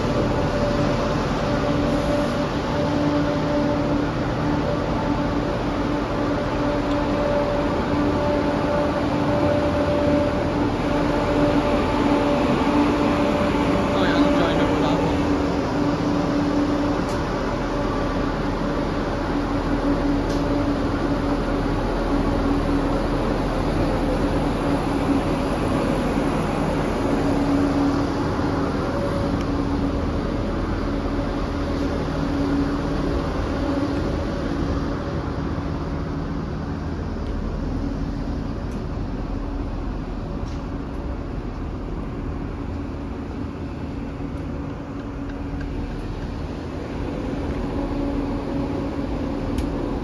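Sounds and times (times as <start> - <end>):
diesel train idling drone: 0.0 - 50.0
rumbling background: 0.0 - 50.0.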